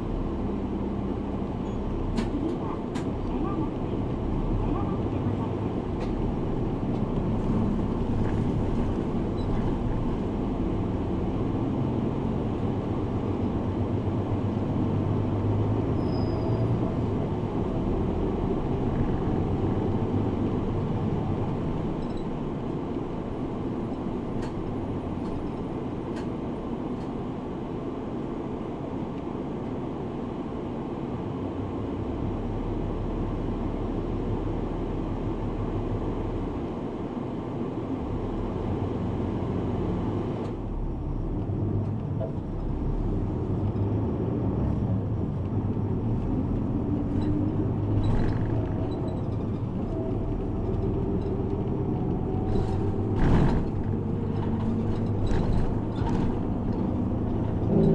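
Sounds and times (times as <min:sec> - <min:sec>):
bus engine and road noise: 0:00.0 - 0:57.9.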